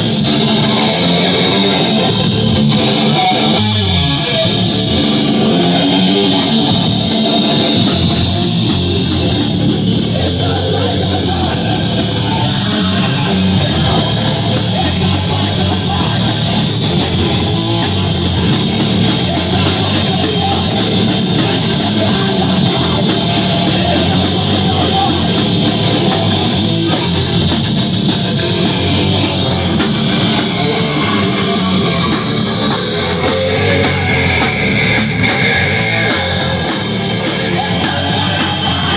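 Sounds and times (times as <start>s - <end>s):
distorted electric guitars: 0.0s - 38.9s
drum kit: 0.0s - 38.9s.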